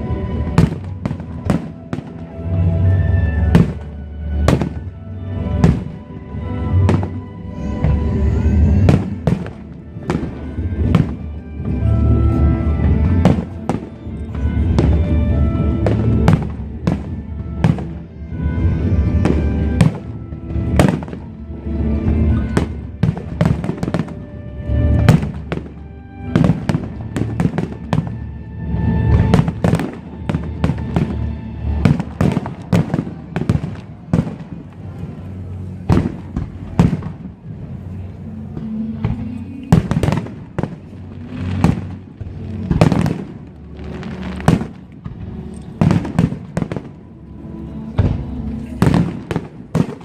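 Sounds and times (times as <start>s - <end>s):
fireworks bangs and crackles: 0.0s - 50.0s
music playing: 0.0s - 50.0s.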